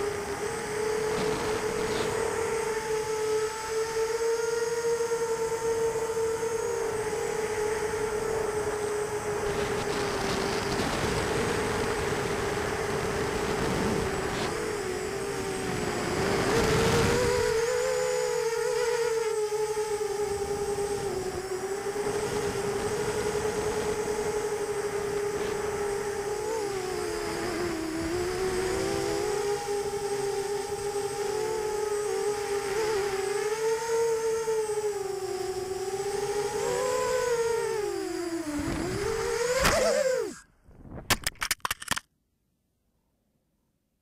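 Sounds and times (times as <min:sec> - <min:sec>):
drone propellers whining: 0:00.0 - 0:40.5.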